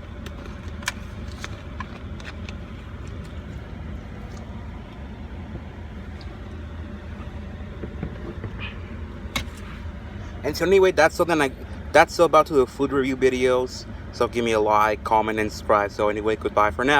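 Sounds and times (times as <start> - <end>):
car engine rumbling: 0.0 - 16.9.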